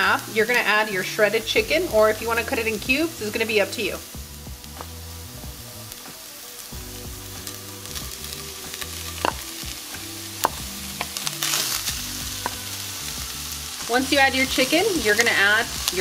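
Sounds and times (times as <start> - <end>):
oil sizzling in a skillet: 0.0 - 16.0.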